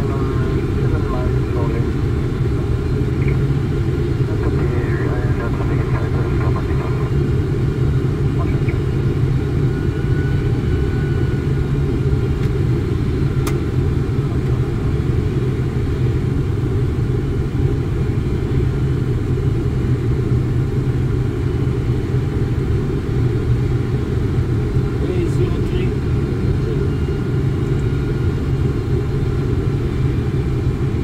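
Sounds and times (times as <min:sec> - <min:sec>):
cockpit airflow and engine rumble: 0:00.0 - 0:31.0.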